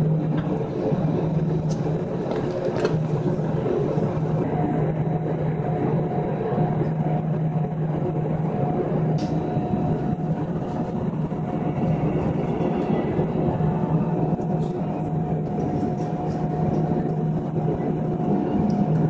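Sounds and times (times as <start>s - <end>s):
aircraft cabin low drone: 0.0s - 19.0s.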